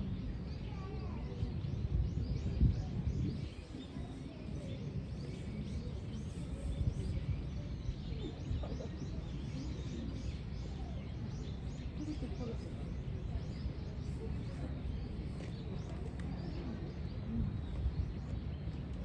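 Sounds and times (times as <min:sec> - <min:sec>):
faint distant voices: 0:00.0 - 0:19.0
small birds chirping: 0:00.0 - 0:19.0.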